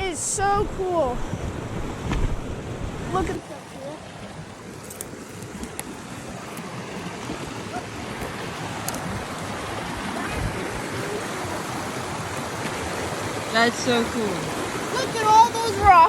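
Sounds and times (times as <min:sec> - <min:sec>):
creek water over rocks: 0:00.0 - 0:16.0.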